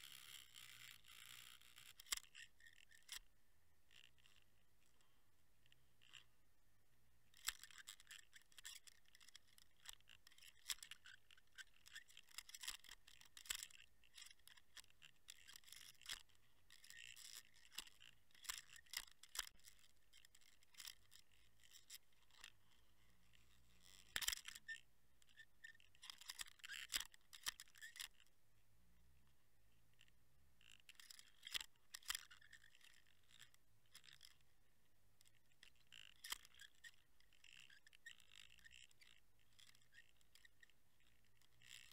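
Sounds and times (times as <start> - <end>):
fishing line ticking on camera: 0.0 - 5.0, 5.6 - 6.3, 7.3 - 22.6, 23.3 - 28.3, 29.9 - 34.5, 35.2 - 41.9.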